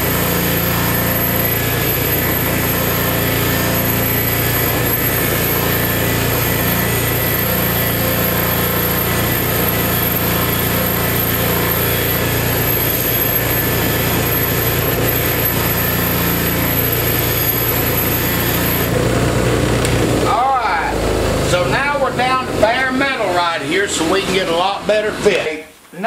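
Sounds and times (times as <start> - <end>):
electric motor humming: 0.0 - 25.4.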